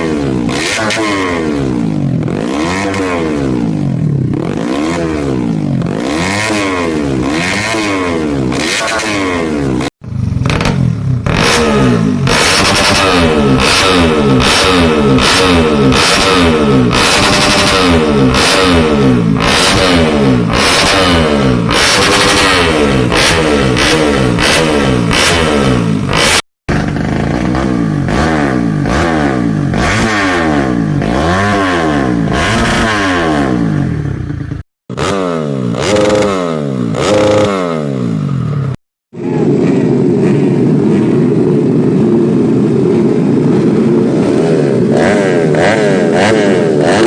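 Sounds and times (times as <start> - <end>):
moped engine revving: 0.0 - 47.0.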